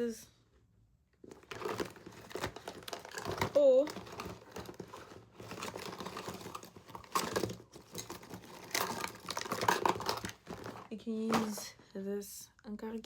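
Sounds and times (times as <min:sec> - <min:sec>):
rustling: 0:01.2 - 0:11.8.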